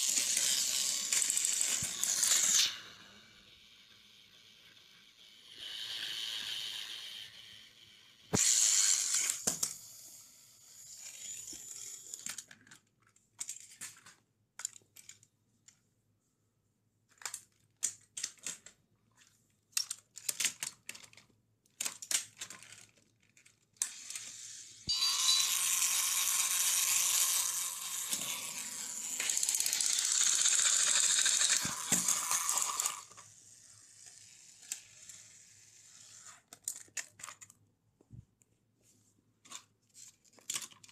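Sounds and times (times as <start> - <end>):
toy train plastic clicks: 0.0 - 15.3, 17.1 - 18.8, 19.7 - 37.6, 39.4 - 40.9.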